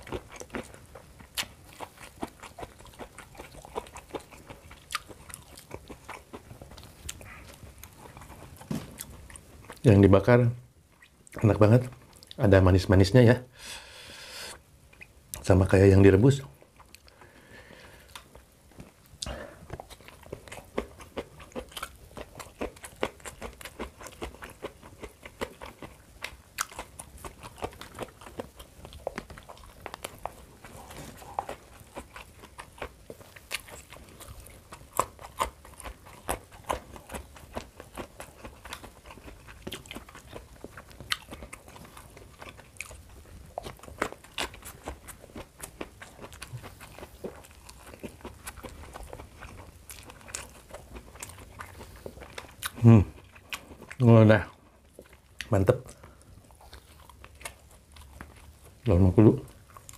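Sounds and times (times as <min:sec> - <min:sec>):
person chewing crunchy food: 0:00.0 - 0:10.1, 0:16.4 - 0:59.9.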